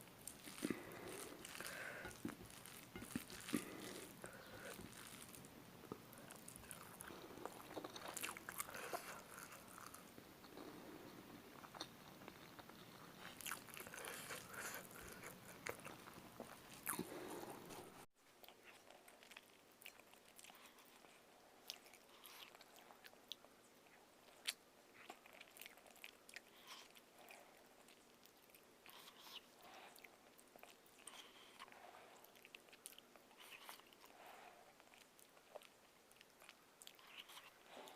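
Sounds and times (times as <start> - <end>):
crunchy chewing: 0.0 - 37.9.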